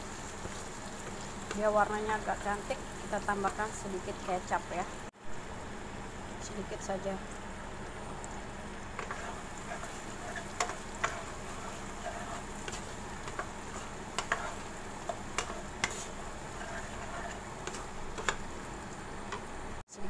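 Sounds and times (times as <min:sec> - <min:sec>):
low sizzle: 0:00.0 - 0:20.0.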